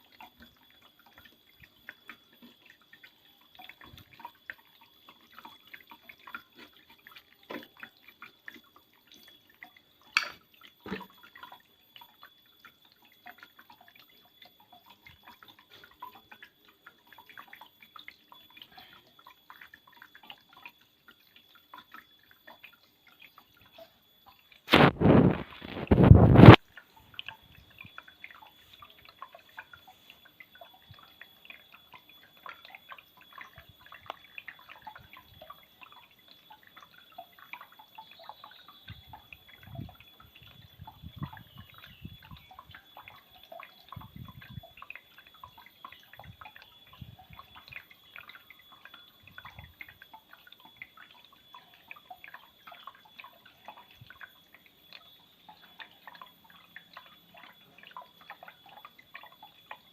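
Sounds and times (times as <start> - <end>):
water dripping and trickling: 0.0 - 59.9.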